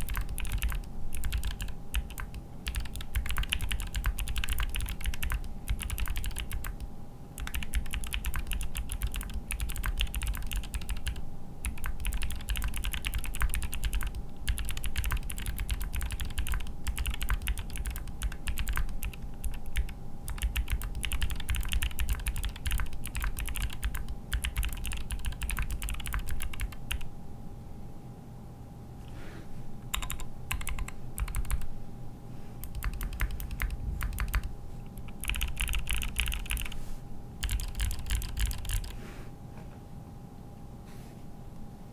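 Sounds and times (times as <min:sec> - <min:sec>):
mechanical keyboard typing: 0:00.0 - 0:27.1, 0:29.9 - 0:31.7, 0:32.6 - 0:36.8, 0:37.4 - 0:39.0.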